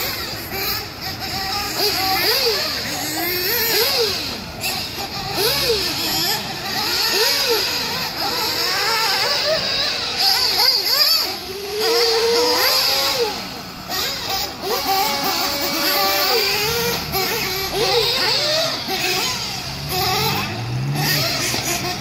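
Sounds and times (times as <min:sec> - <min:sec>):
nitro rc car engines revving: 0:00.0 - 0:22.0.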